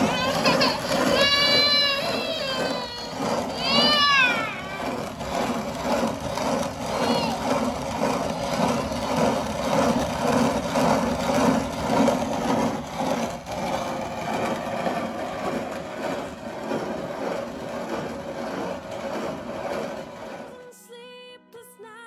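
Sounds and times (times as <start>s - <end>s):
hand mill grinding grain: 0.0s - 20.6s.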